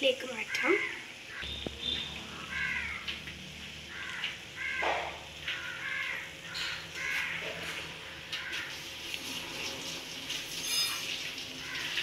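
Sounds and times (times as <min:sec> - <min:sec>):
oil sizzling in a frying pan: 0:00.0 - 0:12.0.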